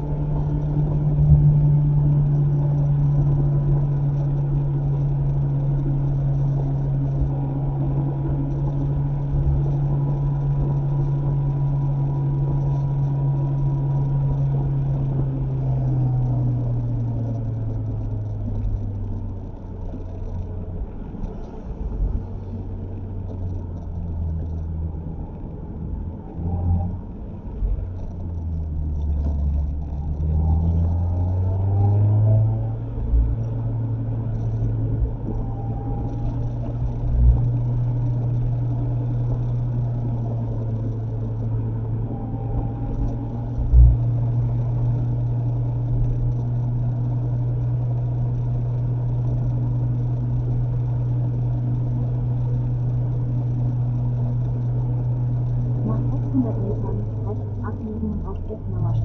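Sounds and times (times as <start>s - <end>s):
car engine running: 0.0s - 59.0s
road noise: 0.0s - 59.0s.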